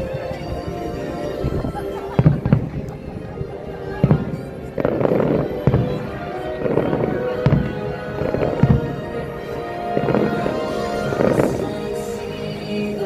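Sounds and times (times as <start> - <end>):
soundtrack music over speakers: 0.0 - 13.0.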